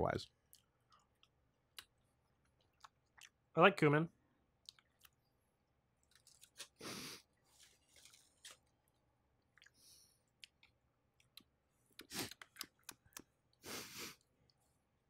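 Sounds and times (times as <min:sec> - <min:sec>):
chewing and mouth noises: 0:00.2 - 0:03.5, 0:04.5 - 0:13.6.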